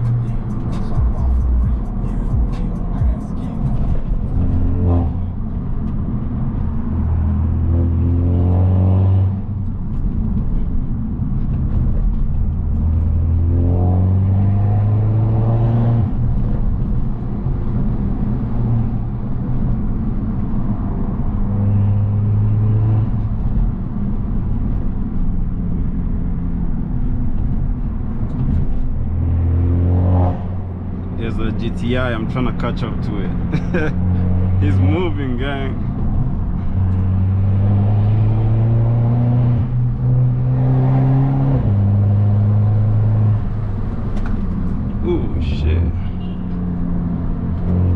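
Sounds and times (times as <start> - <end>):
car engine revving through gears: 0.0 - 10.3, 11.6 - 20.0, 20.8 - 24.4, 28.2 - 31.2, 31.9 - 47.9.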